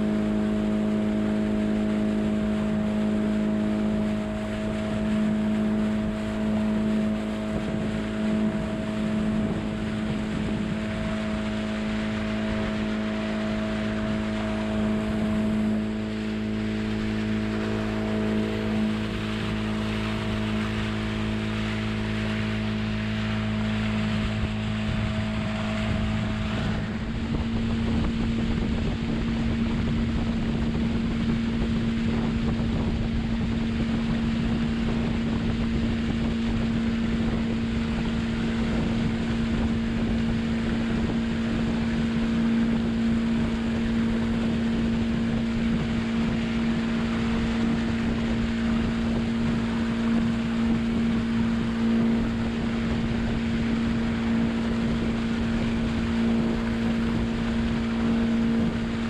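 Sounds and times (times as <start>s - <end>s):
boat motor humming: 0.0s - 59.0s
water rushing: 0.0s - 59.0s
wind buffeting microphone: 0.0s - 59.0s.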